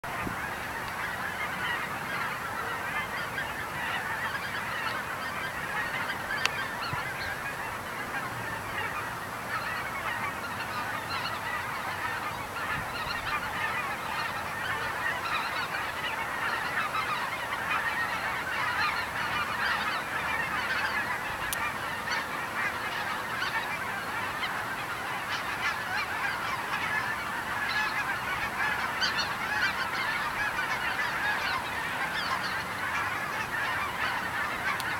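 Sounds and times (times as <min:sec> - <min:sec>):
geese honking: 0:00.0 - 0:34.9.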